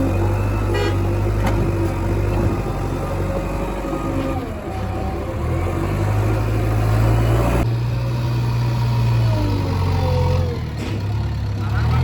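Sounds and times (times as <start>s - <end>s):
diesel engine revving under load: 0.0s - 12.0s.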